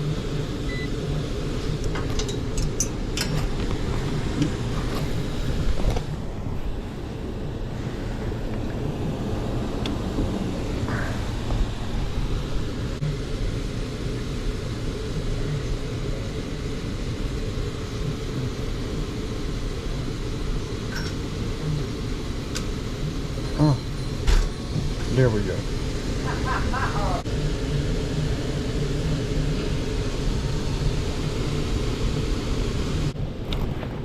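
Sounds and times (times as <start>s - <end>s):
air handler blower rumble: 0.0s - 34.0s.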